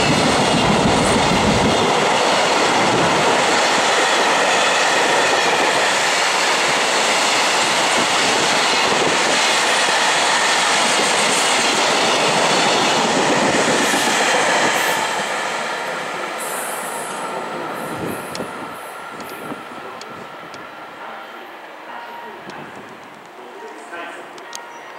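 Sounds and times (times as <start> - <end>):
freight train passing: 0.0 - 24.9.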